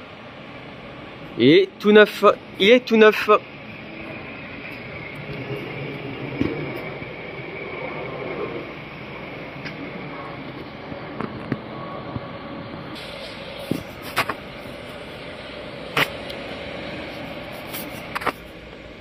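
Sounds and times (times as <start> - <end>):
coach diesel engine pulling away: 0.0 - 19.0.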